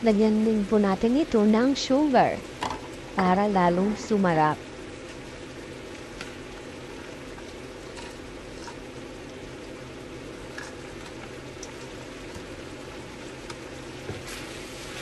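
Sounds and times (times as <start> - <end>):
stew bubbling in a pan: 0.0 - 15.0.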